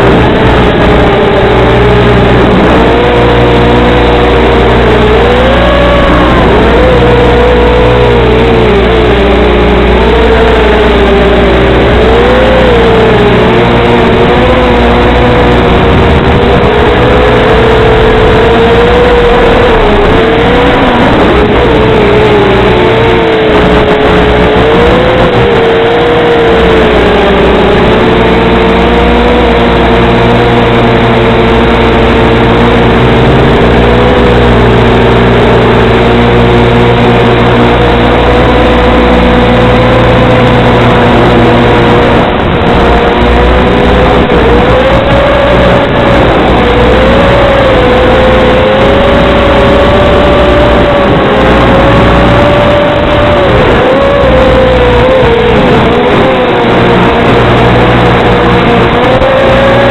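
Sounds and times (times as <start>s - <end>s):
model aircraft motor whining: 0.0s - 59.9s
steady low hum: 0.0s - 59.9s.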